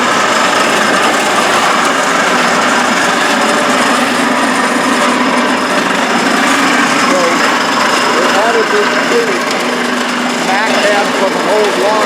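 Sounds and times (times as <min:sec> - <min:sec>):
wet gravel rattling through machinery: 0:00.0 - 0:12.0.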